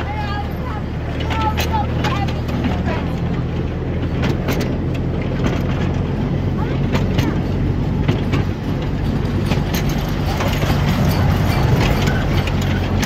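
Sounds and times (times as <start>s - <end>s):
carriages clacking and rattling: 0.0s - 13.0s
train engine hum: 0.0s - 13.0s.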